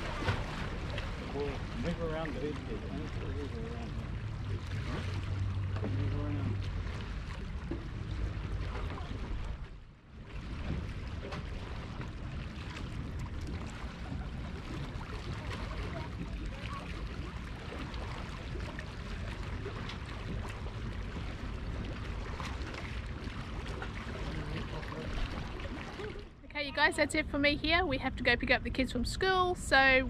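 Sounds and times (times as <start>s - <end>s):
sea water washing: 0.0s - 30.0s.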